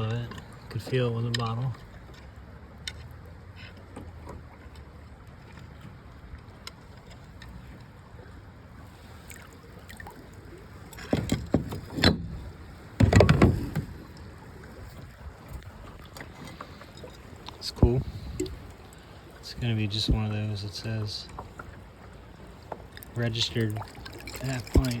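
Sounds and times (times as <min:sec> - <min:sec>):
creek water flowing: 0:00.0 - 0:25.0
water splashing and sloshing: 0:00.0 - 0:25.0.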